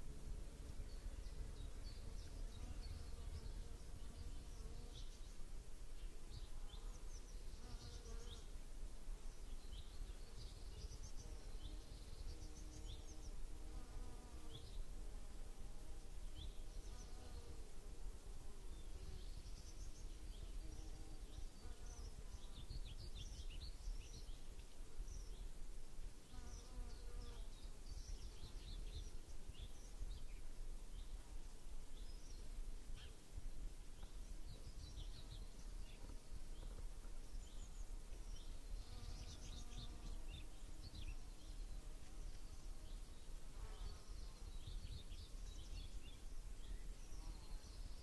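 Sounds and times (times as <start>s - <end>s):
flying insects buzzing: 0.0s - 33.2s, 33.8s - 48.0s.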